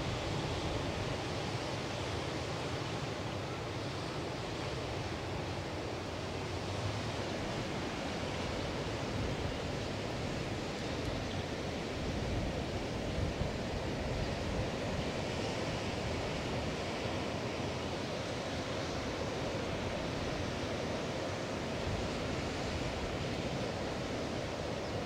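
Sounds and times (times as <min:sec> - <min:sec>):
surf washing on beach: 0:00.0 - 0:25.0.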